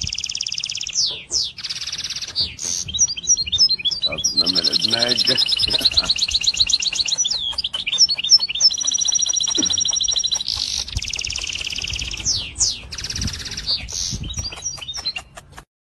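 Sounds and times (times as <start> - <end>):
finch chirping and trilling: 0.0 - 15.7.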